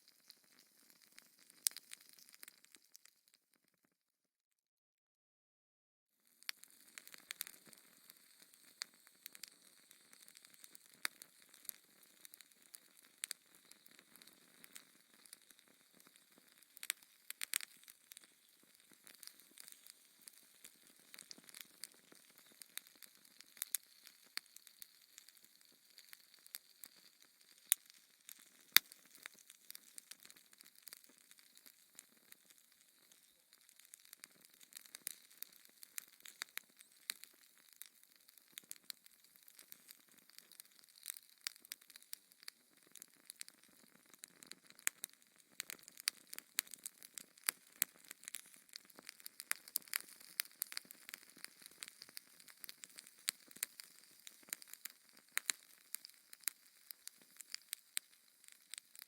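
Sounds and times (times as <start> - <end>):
wood fire crackling: 0.0 - 3.1, 6.4 - 59.0.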